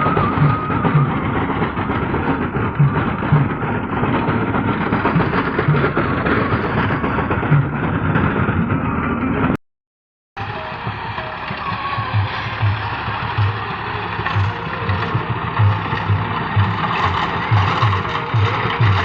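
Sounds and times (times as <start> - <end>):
rotavator churning soil: 0.0 - 8.6, 10.4 - 19.0
tractor engine under load: 0.0 - 9.6, 10.4 - 19.0.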